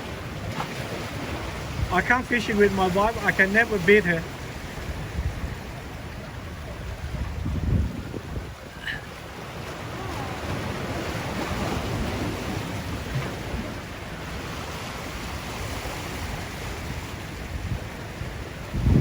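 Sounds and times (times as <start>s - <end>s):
sea waves washing against rocks: 0.0s - 19.0s
wind buffeting microphone: 0.0s - 19.0s.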